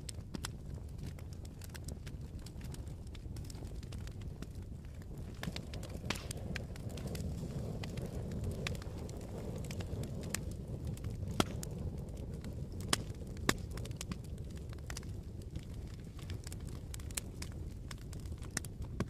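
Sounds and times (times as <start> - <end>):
fire crackles and pops: 0.0 - 19.0
wood fire burning: 0.0 - 19.0.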